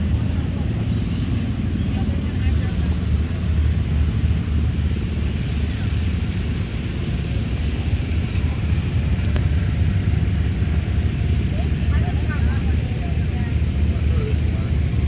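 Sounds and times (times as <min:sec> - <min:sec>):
garden tractor engine rumbling: 0:00.0 - 0:15.0.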